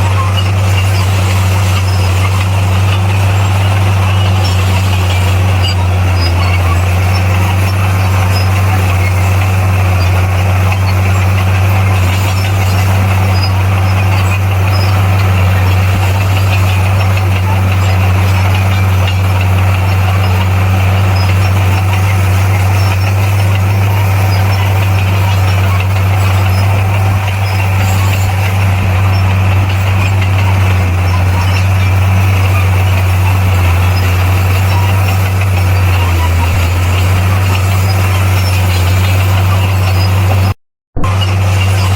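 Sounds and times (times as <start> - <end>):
heavy diesel engine droning: 0.0 - 41.9.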